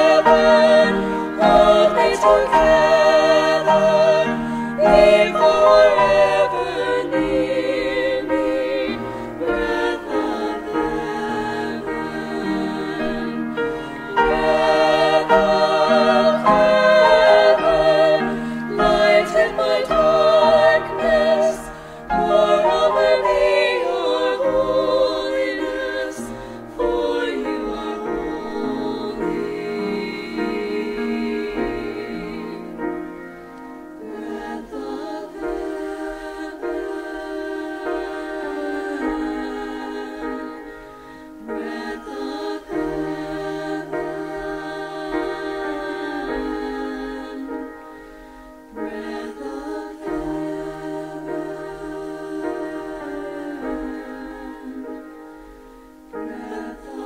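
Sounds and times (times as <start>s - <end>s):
sustained instrumental accompaniment: 0.0s - 57.0s
vocal trio singing in harmony: 0.0s - 57.0s.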